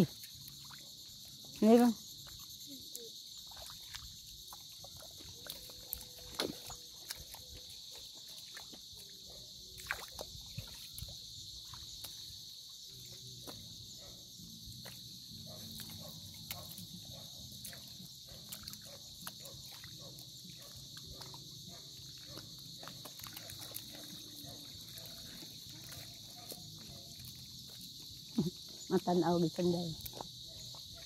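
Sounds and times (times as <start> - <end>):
footsteps squelching in wet mud: 0.0 - 31.0
high insect chorus: 0.0 - 31.0.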